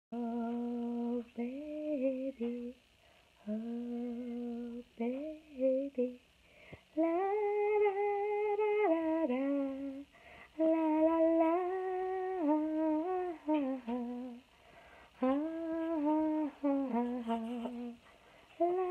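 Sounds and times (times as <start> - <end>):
woman humming a tune: 0.2 - 2.8, 3.4 - 6.2, 6.9 - 14.5, 15.2 - 18.9.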